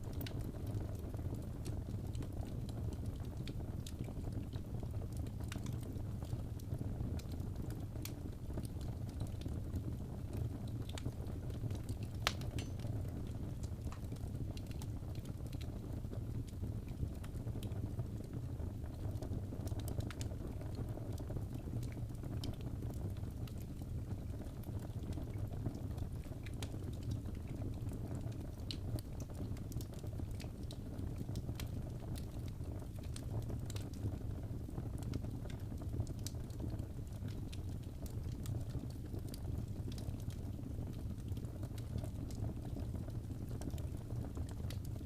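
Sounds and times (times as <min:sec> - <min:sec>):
fire crackling and popping: 0:00.0 - 0:45.0
fire rumbling: 0:00.0 - 0:45.0.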